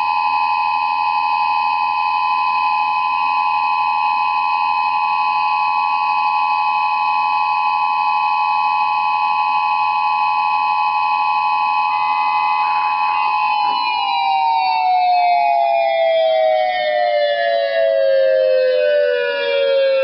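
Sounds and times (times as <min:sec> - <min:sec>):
electronic warning sirens: 0:00.0 - 0:20.0.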